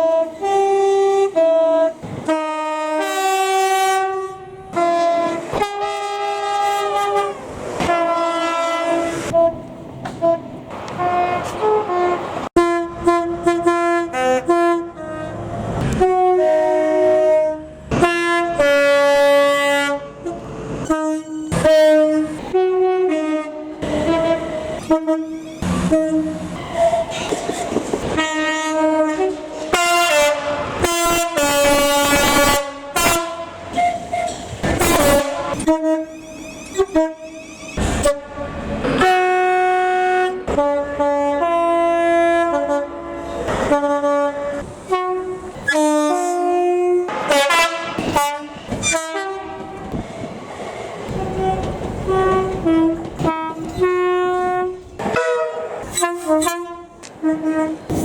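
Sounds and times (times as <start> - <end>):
train horn blasts: 0.0 - 27.2, 28.0 - 50.0, 51.1 - 58.0.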